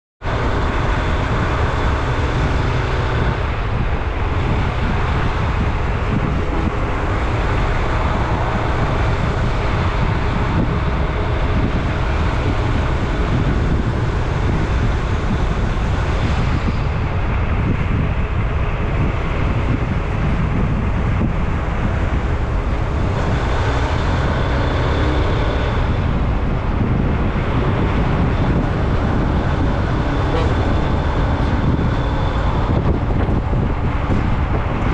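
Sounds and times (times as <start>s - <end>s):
vehicle engine and road noise: 0.2s - 34.9s
wind on microphone: 0.2s - 34.9s.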